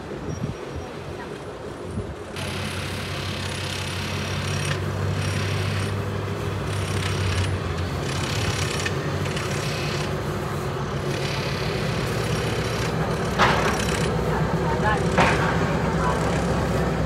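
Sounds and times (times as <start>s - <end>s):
train engine hum: 0.0s - 17.0s
train wheels rolling: 1.2s - 17.0s.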